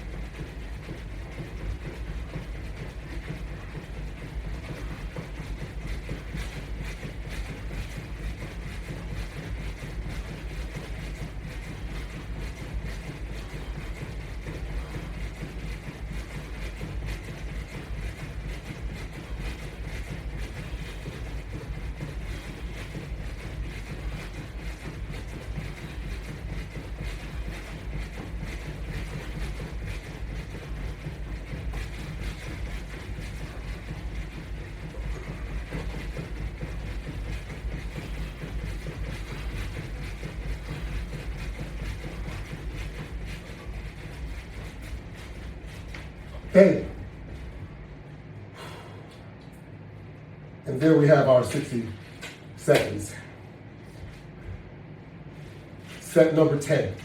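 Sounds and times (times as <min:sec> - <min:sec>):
feet jogging in place thudding: 0:00.0 - 0:57.0.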